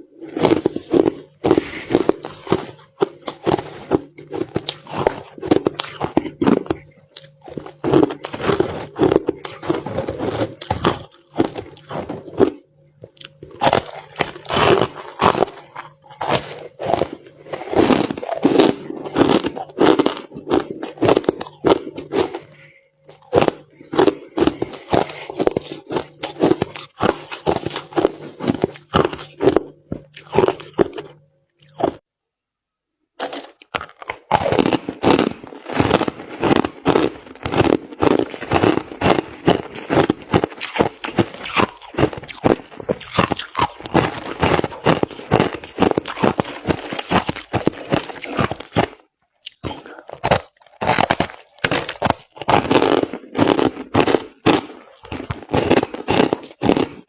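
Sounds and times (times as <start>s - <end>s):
person chewing crunchy ice: 0.0s - 32.0s, 33.2s - 57.0s
faint steady hum: 0.0s - 57.0s.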